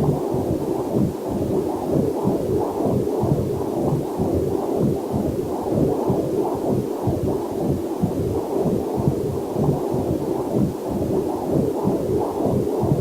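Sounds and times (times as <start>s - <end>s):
heartbeat pulses on doppler monitor: 0.0s - 13.0s.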